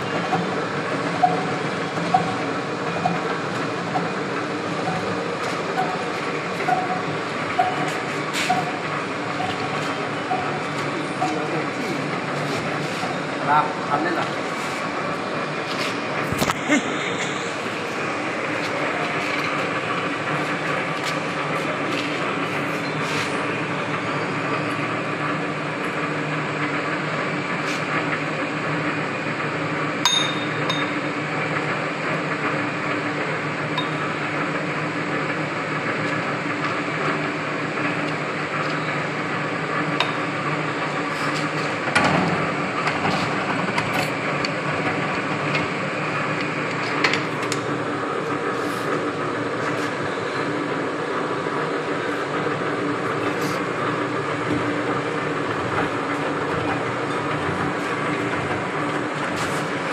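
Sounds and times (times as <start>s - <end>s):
milling machine humming: 0.0s - 59.9s.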